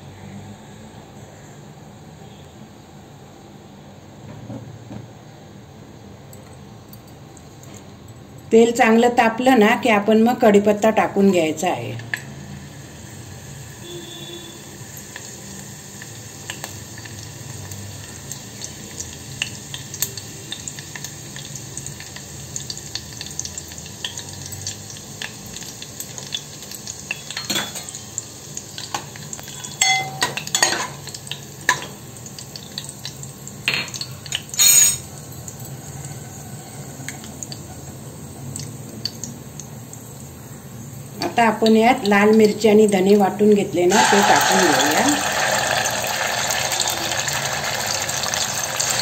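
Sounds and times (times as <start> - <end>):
leaves sizzling in hot oil: 8.6 - 49.0.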